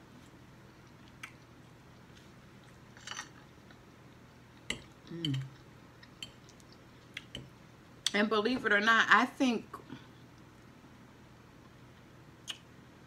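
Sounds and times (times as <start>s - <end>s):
soft eating sounds: 0.0s - 8.9s, 9.6s - 13.0s.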